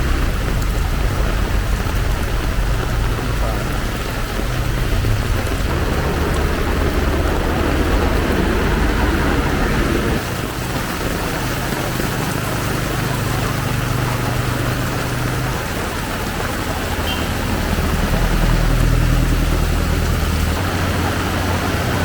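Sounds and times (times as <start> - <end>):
heavy rain pouring: 0.0 - 22.0
vehicle engines passing: 0.0 - 22.0.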